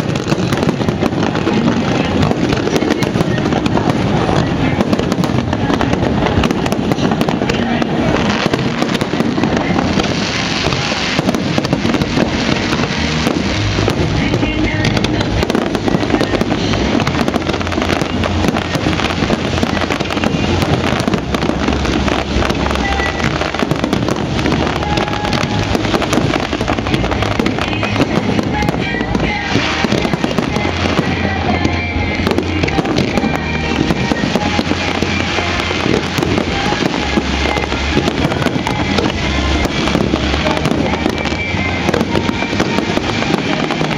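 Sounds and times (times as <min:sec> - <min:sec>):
deep fireworks booms: 0:00.0 - 0:43.9
fireworks crackling and popping: 0:00.0 - 0:43.9.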